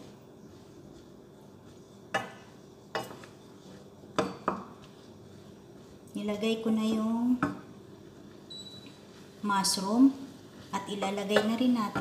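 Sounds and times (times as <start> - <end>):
spatula stirring shrimp in a pan: 0.0 - 12.0.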